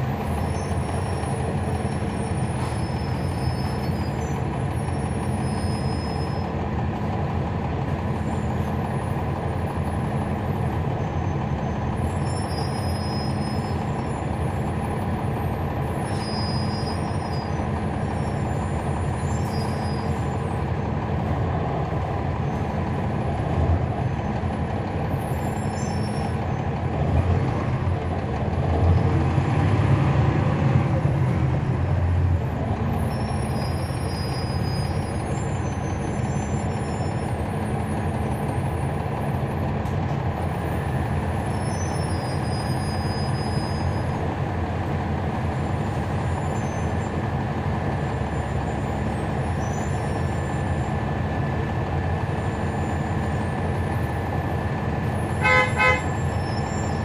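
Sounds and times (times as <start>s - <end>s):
bus diesel engine: 0.0s - 57.0s
road noise: 0.0s - 57.0s.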